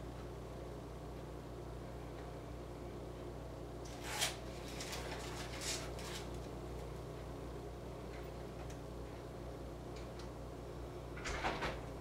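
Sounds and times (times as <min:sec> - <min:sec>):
toaster humming: 0:00.0 - 0:12.0.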